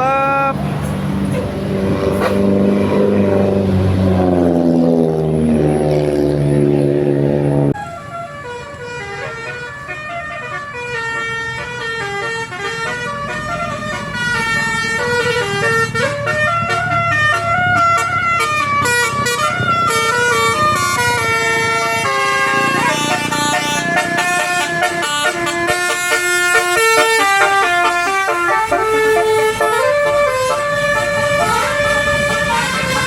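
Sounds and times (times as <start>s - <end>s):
bus horn playing melody: 1.3s - 33.0s
deep loud horn tone: 1.7s - 9.5s, 11.7s - 33.0s.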